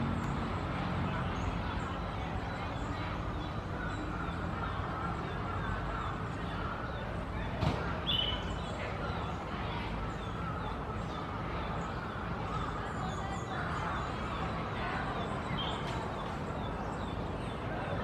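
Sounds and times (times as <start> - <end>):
birds chirping: 0.0 - 18.0
steady background noise: 0.0 - 18.0.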